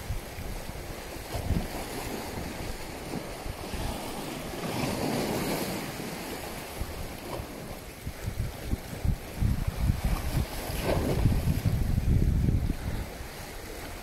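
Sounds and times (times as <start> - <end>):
choppy sea waves: 0.0 - 14.0
wind buffeting microphone: 0.0 - 14.0.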